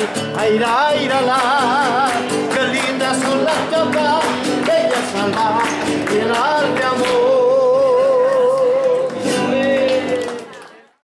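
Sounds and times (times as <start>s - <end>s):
folk song sung to guitar: 0.0s - 10.7s
hand-clapping: 0.0s - 11.0s.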